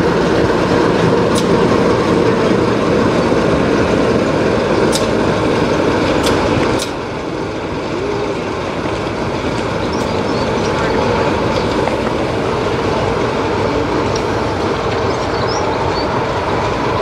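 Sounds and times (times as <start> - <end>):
diesel locomotive engine running: 0.0 - 17.0
wheels clicking on track: 0.0 - 17.0.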